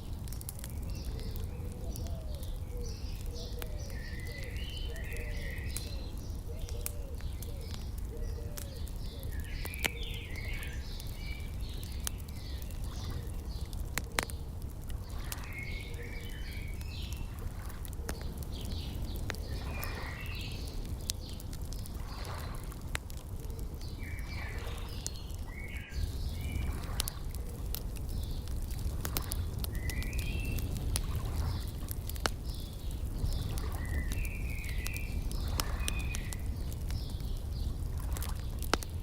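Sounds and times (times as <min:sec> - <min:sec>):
birds chirping: 0:00.0 - 0:39.0
wood fire crackling: 0:00.0 - 0:39.0.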